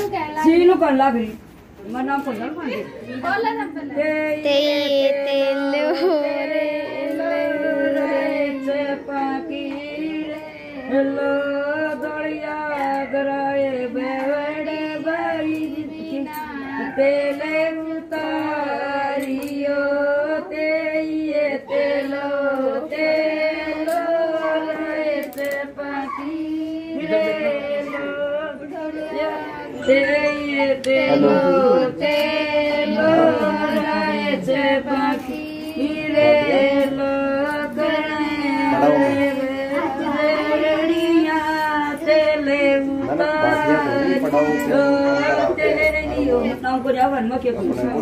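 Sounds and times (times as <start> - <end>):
women singing a slow folk song: 3.6 - 47.9.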